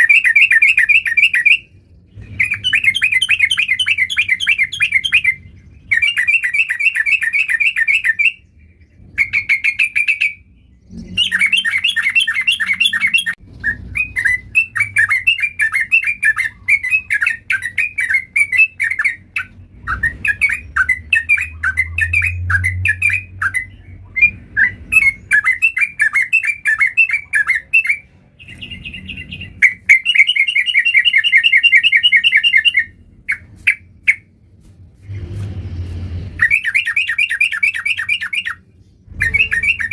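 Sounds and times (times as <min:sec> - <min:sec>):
bird chattering song: 0:00.0 - 0:34.4, 0:36.4 - 0:39.9.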